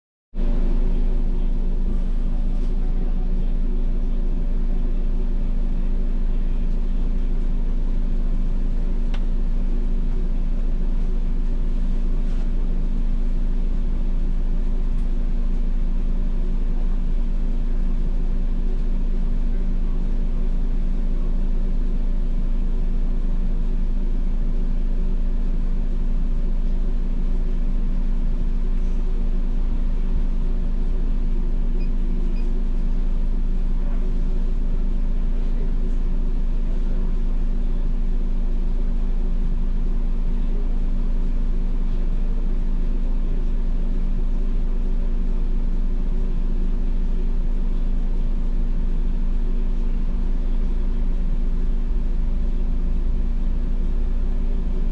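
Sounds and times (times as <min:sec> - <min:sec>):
bus diesel engine idling: 0:00.4 - 0:54.9.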